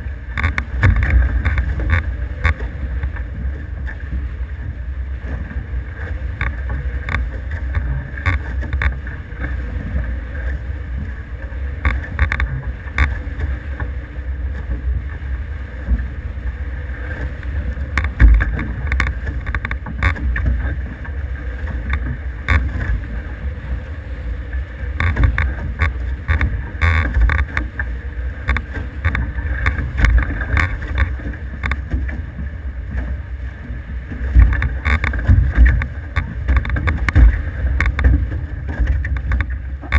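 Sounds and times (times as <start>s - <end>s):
water slapping against hulls: 0.0s - 39.9s
wind rumbling on microphone: 0.0s - 39.9s.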